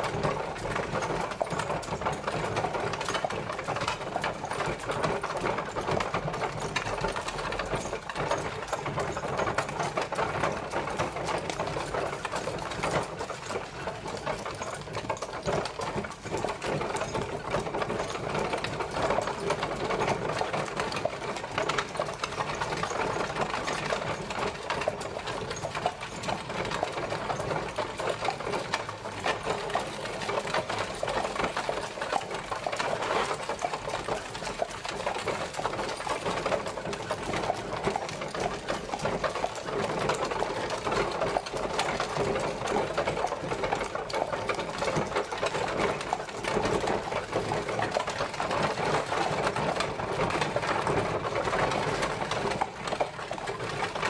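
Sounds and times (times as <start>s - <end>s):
carriage wheels clattering: 0.0s - 54.0s.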